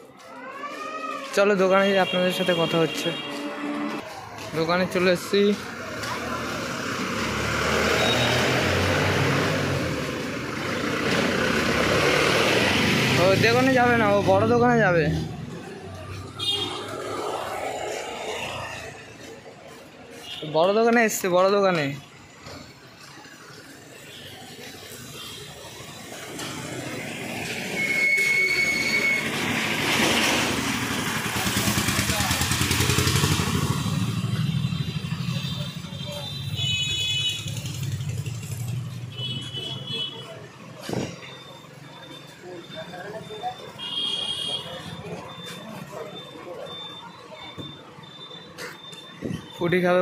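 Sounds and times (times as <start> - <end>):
road noise: 0.0 - 50.0
street traffic noise: 0.0 - 50.0
vehicle engines running: 2.3 - 20.3, 20.9 - 50.0.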